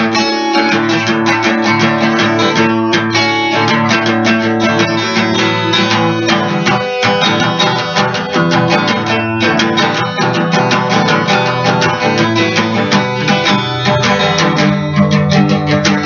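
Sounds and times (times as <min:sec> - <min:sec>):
guitar plucked notes: 0:00.0 - 0:16.0.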